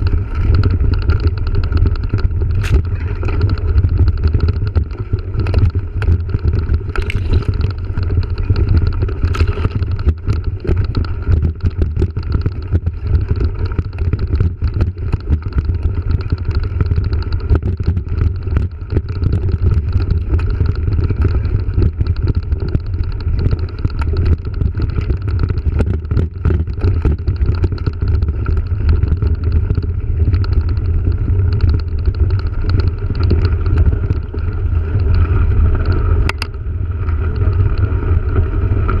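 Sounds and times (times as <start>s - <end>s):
bike rattles and knocks: 0.0s - 39.0s
wind rumbling on microphone: 0.0s - 39.0s.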